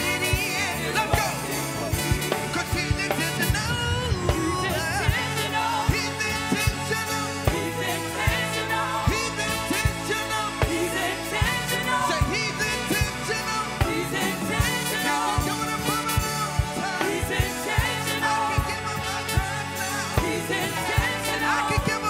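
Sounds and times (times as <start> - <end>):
backing vocalists singing: 0.0 - 22.0
band with steady drum beat: 0.0 - 22.0
man singing lead: 0.0 - 22.0.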